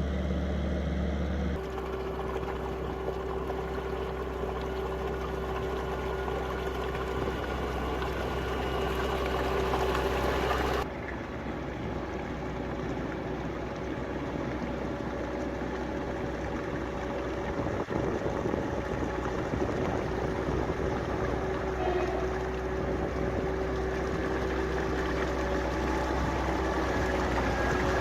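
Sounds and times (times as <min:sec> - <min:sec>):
loader engine and hydraulic whine: 0:00.0 - 0:28.0.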